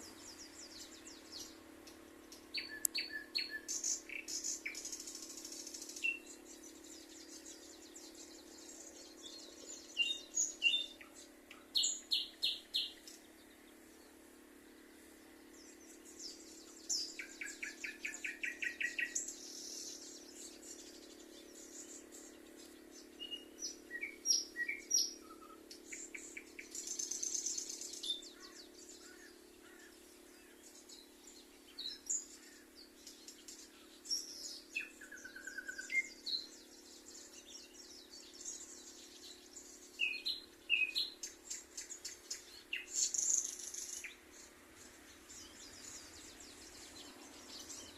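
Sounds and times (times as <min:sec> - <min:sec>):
low background noise: 0:00.0 - 0:47.9
songbirds singing and chirping: 0:00.0 - 0:47.9.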